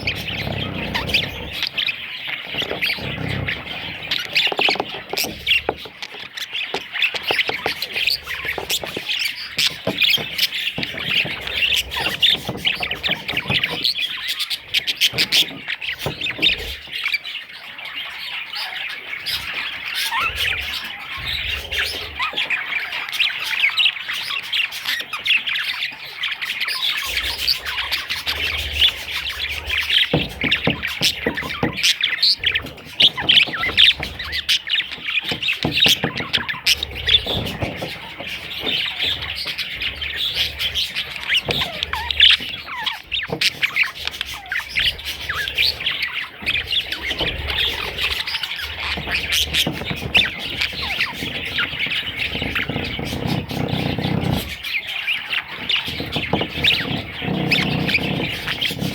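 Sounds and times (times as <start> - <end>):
budgerigars chirping and squawking: 0.0 - 58.9.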